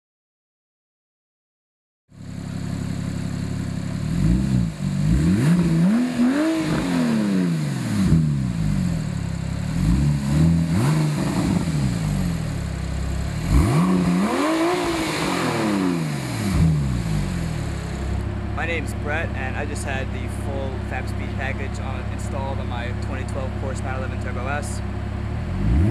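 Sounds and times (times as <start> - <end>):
car engine idling and revving: 2.1 - 25.9.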